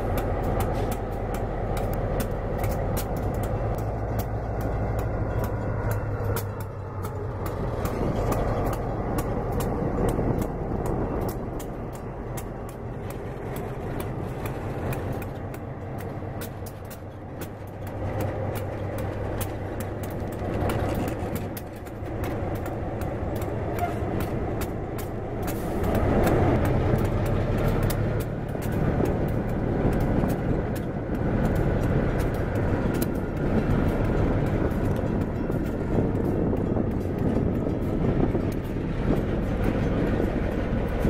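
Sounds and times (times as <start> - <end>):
locomotive diesel engines rumbling: 0.0 - 41.0.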